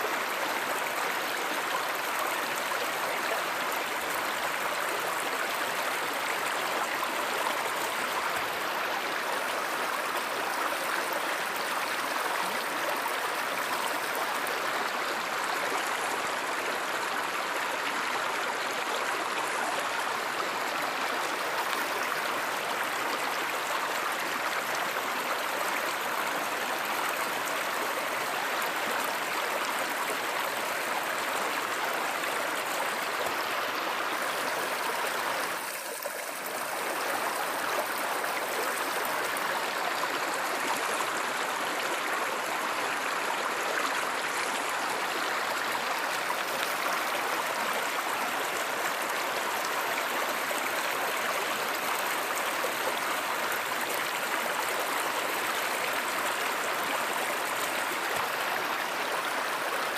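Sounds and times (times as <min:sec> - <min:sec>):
stream rushing water: 0:00.0 - 0:59.9.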